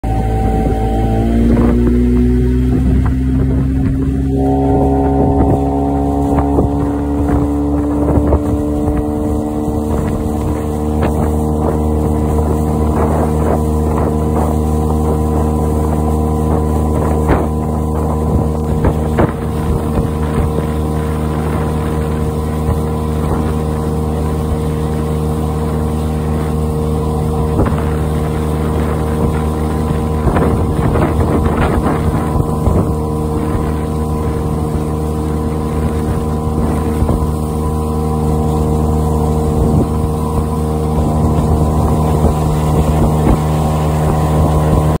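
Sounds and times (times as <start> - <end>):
boat motor running: 0.0 - 45.0
water rushing: 0.0 - 45.0
wind buffeting microphone: 0.0 - 45.0.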